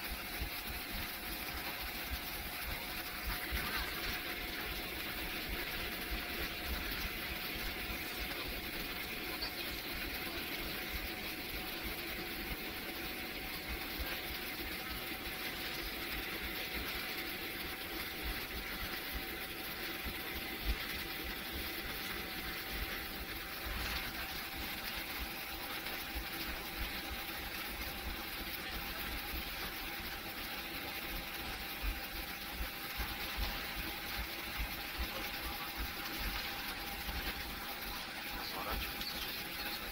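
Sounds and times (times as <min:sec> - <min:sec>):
jet engines humming with whine: 0:00.0 - 0:39.9.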